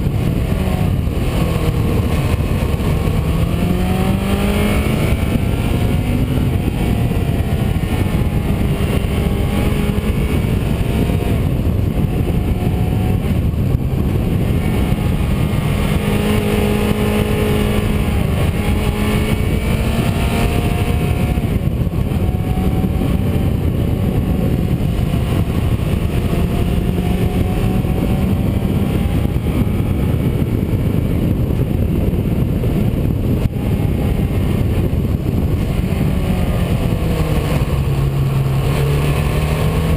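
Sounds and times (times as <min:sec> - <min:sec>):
car engine driving: 0:00.0 - 0:39.9
wind and road noise: 0:00.0 - 0:39.9.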